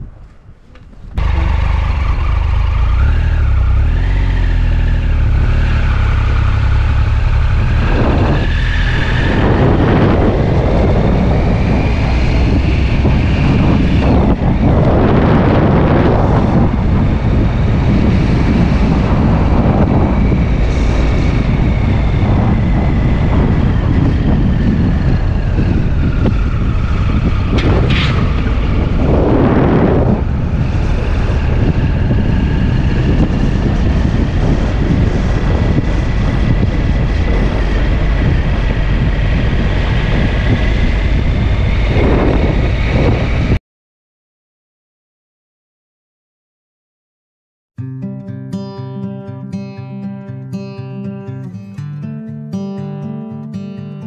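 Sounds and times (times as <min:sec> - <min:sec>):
road and engine rumble: 0:00.0 - 0:43.6
wind buffeting microphone: 0:00.0 - 0:43.6.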